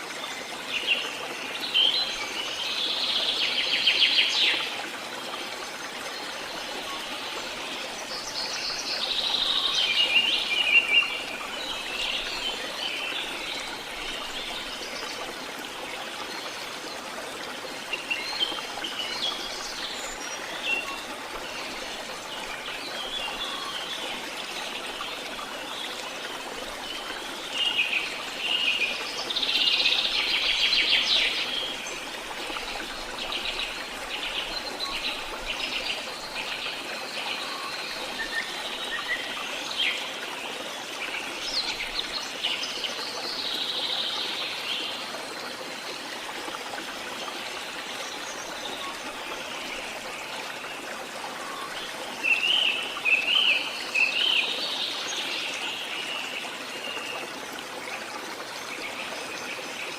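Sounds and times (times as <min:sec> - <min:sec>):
songbirds singing and chirping: 0:00.0 - 0:59.9
stream rushing: 0:00.0 - 0:59.9.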